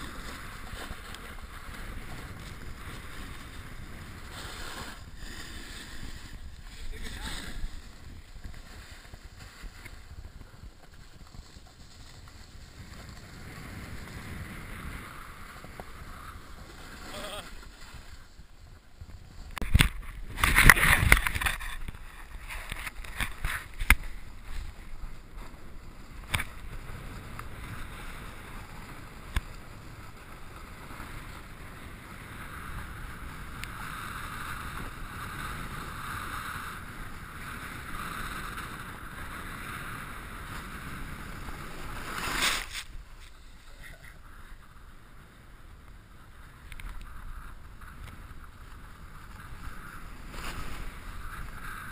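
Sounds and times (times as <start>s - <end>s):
snowboard scraping over snow: 0.0s - 51.9s
wind rushing across microphone: 0.0s - 51.9s.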